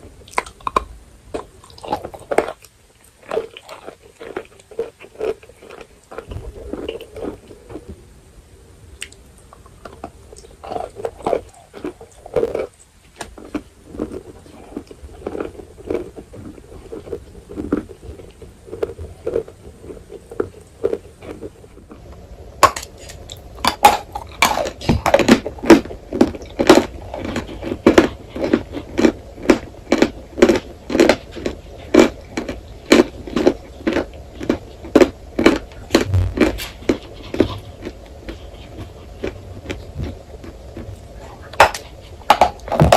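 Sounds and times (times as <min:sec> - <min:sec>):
crunchy chewing: 0:00.0 - 0:07.9, 0:09.0 - 0:42.9.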